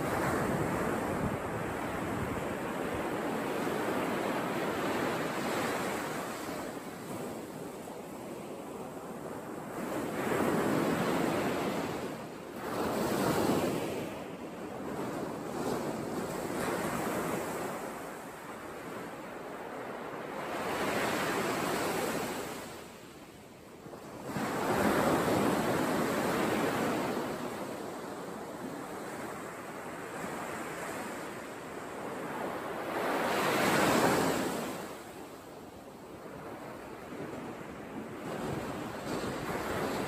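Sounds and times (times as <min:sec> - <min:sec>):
waves washing onto sand: 0:00.0 - 0:36.0.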